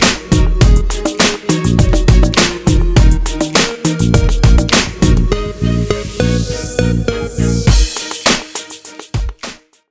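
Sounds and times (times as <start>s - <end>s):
electronic music with heavy bass: 0.0s - 9.8s.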